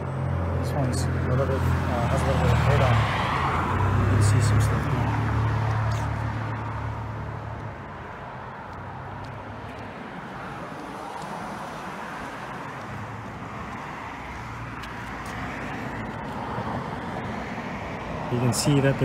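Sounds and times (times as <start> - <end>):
passing traffic hum: 0.0 - 19.0
vehicle engine rumbling: 0.0 - 19.0.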